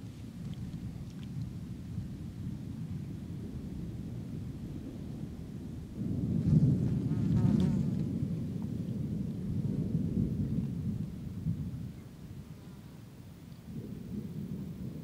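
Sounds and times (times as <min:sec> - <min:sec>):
thunder rumbling: 0:01.9 - 0:13.1, 0:13.7 - 0:15.0.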